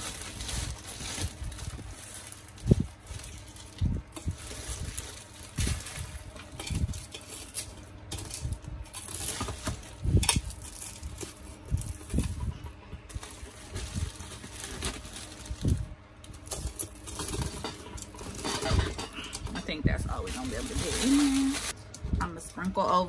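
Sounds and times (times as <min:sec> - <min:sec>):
plastic bag crinkling: 0:00.0 - 0:21.8.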